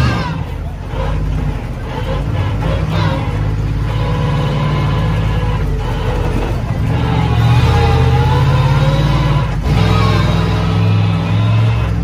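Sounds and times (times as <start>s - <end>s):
monster truck engine running loud: 0.0s - 12.0s.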